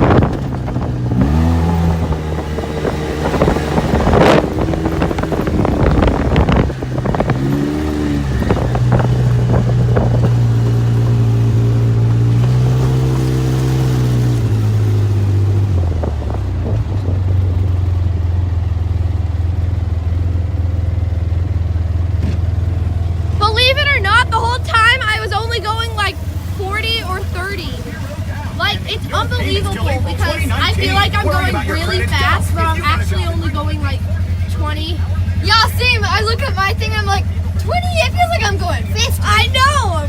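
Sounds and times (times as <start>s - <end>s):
utility vehicle engine revving: 0.0s - 40.0s.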